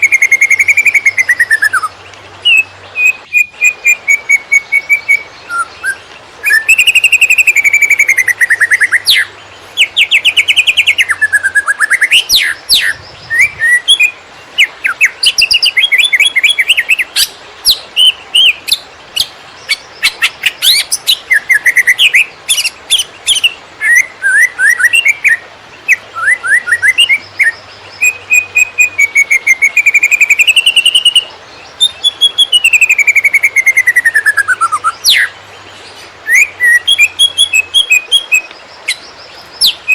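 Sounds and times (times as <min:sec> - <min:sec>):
bird singing whistles and trills: 0:00.0 - 0:35.4, 0:36.2 - 0:39.9.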